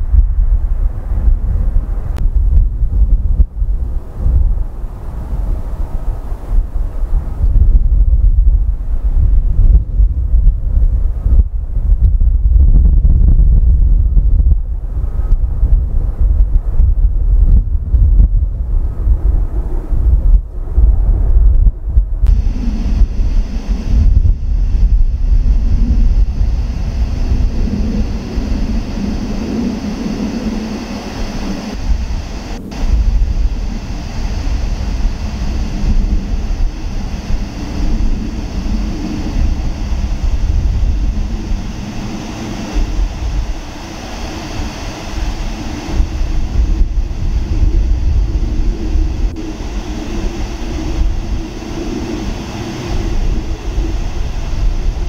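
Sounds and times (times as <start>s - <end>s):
jet engines rumbling: 0.0s - 55.0s
wind buffeting microphone: 0.0s - 55.0s.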